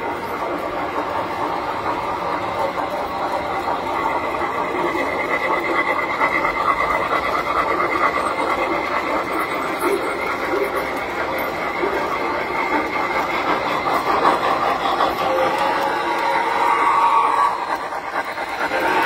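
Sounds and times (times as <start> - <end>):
toy train whirring rumble: 0.0 - 19.0.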